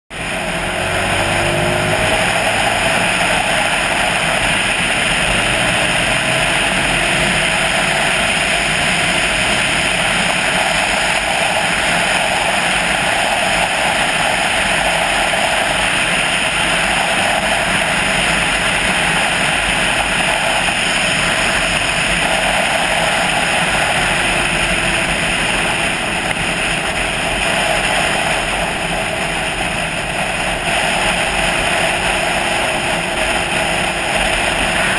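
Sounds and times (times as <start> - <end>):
tyre noise on highway: 0.1 - 34.9
wind rush: 0.1 - 34.9.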